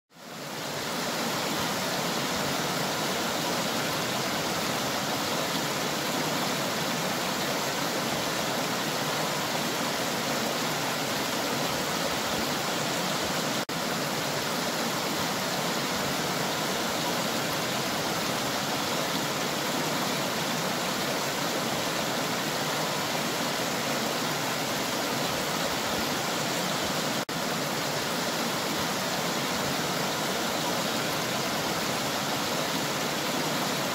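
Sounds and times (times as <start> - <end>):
river water rushing over stones: 0.2 - 33.9.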